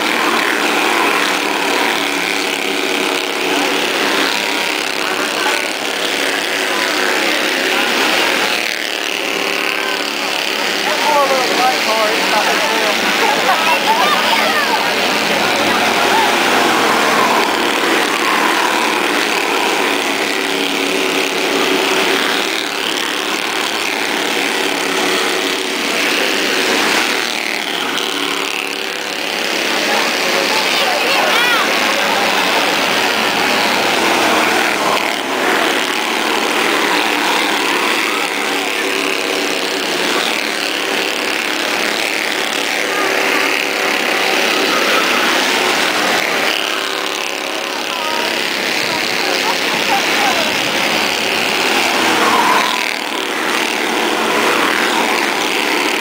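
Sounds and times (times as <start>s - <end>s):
small race car engines buzzing: 0.0s - 56.0s.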